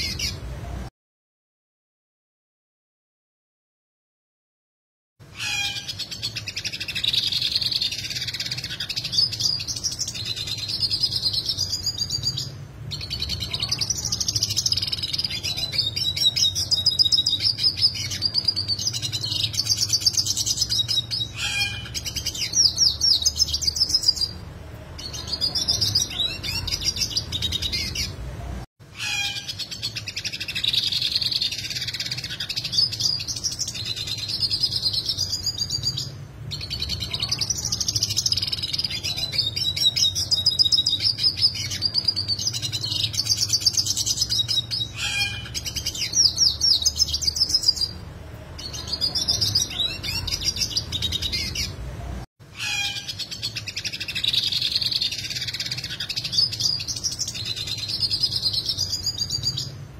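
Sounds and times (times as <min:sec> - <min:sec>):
siskin twittering song: 0:00.0 - 0:00.4, 0:05.3 - 0:24.4, 0:25.0 - 0:28.2, 0:28.9 - 0:48.0, 0:48.6 - 0:51.8, 0:52.5 - 0:59.8.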